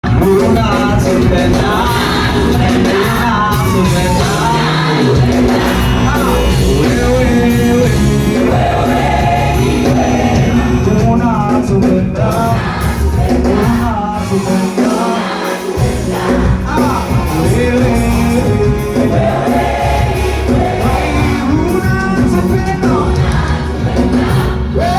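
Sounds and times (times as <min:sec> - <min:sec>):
instrumental accompaniment: 0:00.0 - 0:24.9
choir singing: 0:00.2 - 0:24.9.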